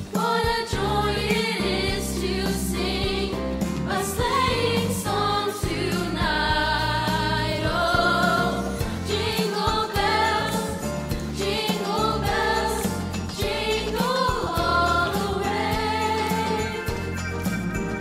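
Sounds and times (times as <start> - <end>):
choir singing: 0.0 - 17.1.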